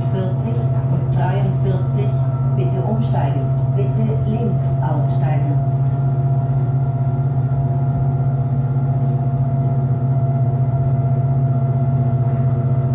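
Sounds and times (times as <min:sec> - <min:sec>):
faint steady whine: 0:00.0 - 0:12.9
low electric drone: 0:00.0 - 0:12.9.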